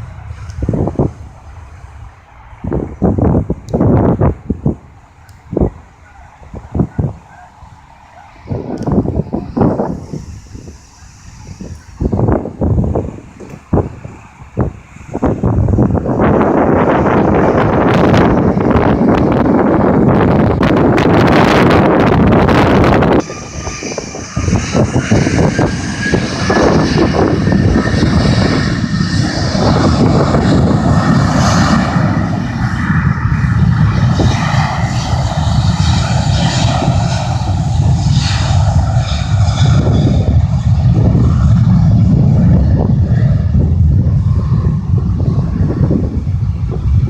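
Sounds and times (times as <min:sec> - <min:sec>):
jet engines rumbling and whining: 0:00.0 - 0:47.0
wind on microphone: 0:00.0 - 0:47.0.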